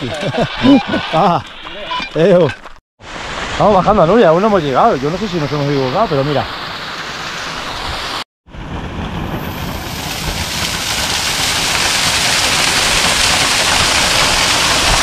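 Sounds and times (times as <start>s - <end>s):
waterfall splashing onto rocks: 0.0s - 8.2s, 9.3s - 15.0s.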